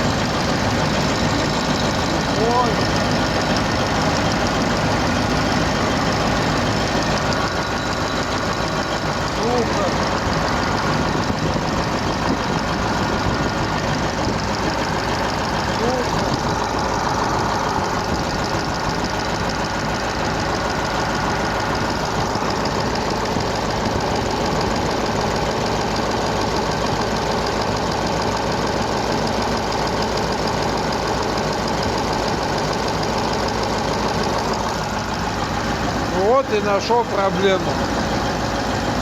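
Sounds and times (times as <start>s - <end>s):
diesel tractor engine idling: 0.0s - 39.0s.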